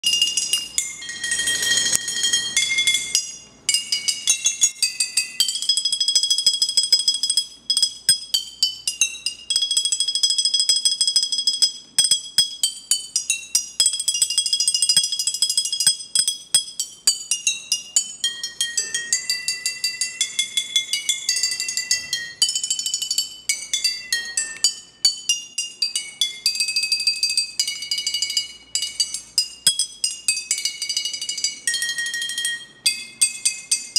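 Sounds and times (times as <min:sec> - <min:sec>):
tuned glass bottles melody: 0:00.0 - 0:33.9.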